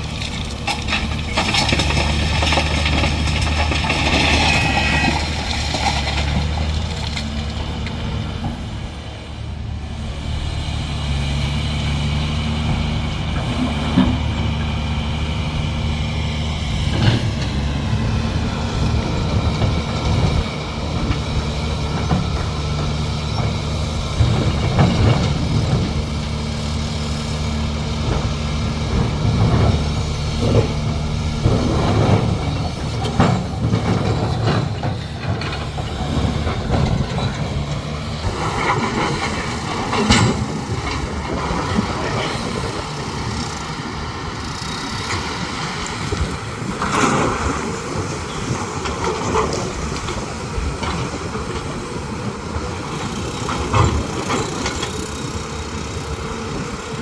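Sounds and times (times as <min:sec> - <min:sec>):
excavator diesel engine running: 0:00.0 - 0:57.0
rock and earth crunching: 0:00.0 - 0:57.0.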